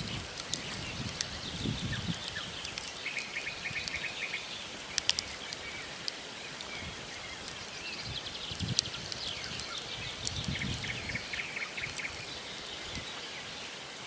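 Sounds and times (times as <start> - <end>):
wood fire crackling and popping: 0.0 - 13.2
small bird calling: 0.0 - 13.8.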